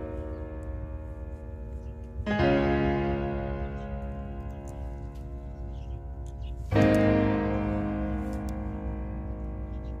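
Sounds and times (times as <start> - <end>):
piano chord ringing: 0.0 - 10.0.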